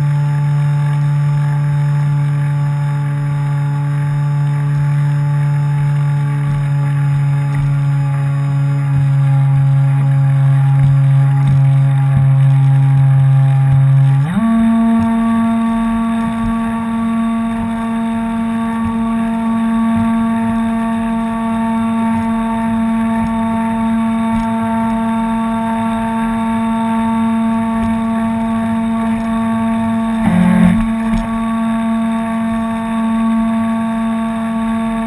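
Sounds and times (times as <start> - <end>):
model boat motor whining: 0.0 - 35.0.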